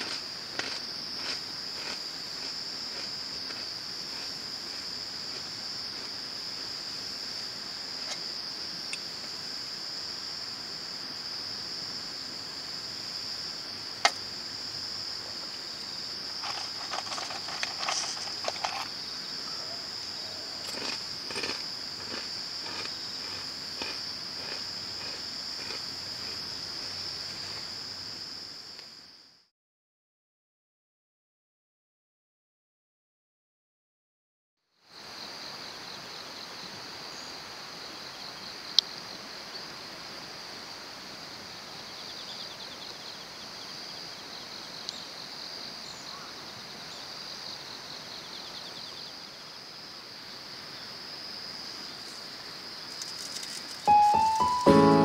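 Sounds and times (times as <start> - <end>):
insects chirring: 0.0 - 29.5, 34.9 - 55.0.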